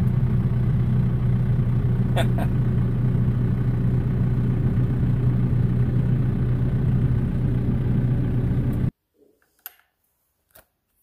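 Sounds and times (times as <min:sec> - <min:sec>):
engine idling: 0:00.0 - 0:08.9.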